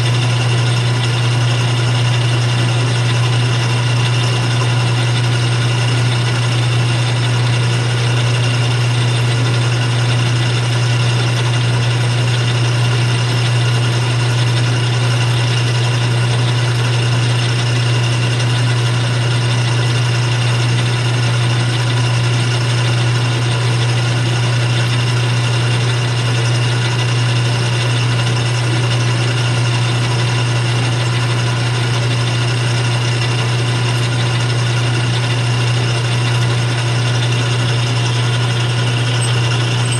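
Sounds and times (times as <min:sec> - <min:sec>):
lathe motor humming with whine: 0:00.0 - 0:39.9.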